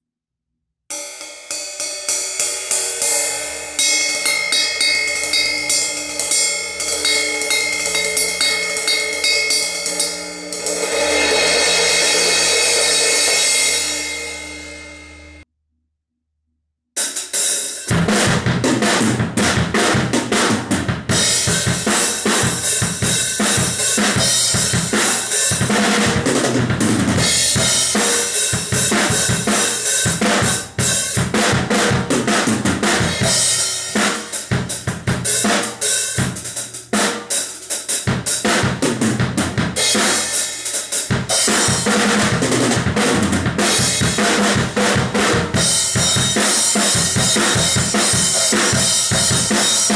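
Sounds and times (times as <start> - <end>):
drum kit groove: 1.8 - 15.4, 17.0 - 49.9.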